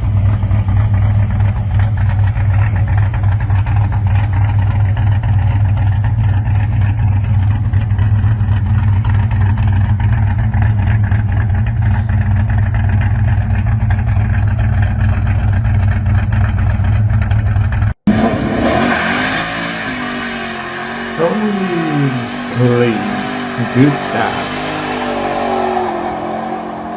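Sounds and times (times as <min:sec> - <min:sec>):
car engine deep rumble: 0:00.0 - 0:26.9
car engine revving: 0:00.0 - 0:26.9.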